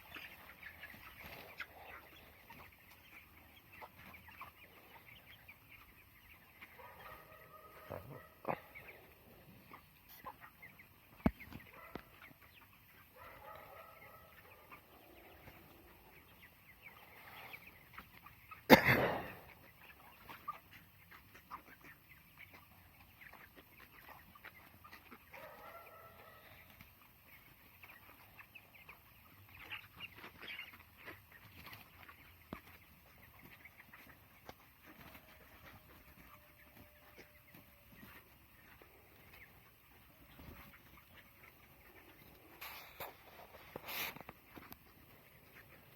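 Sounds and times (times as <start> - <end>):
chickens clucking and cheeping: 0.0 - 45.9.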